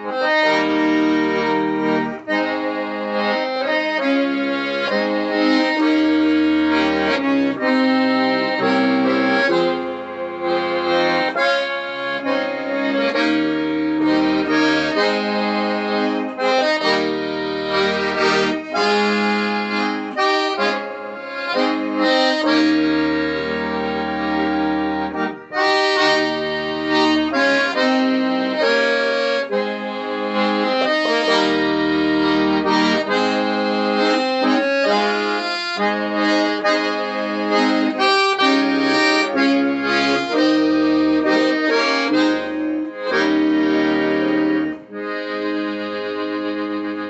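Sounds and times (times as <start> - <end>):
accordions playing: 0.0 - 47.0.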